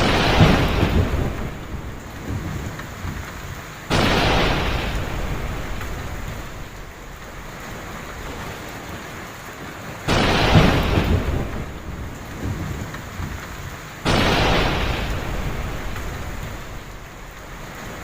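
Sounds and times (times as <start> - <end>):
heavy rain falling: 0.0 - 18.0
thunder claps rumbling: 0.0 - 18.0.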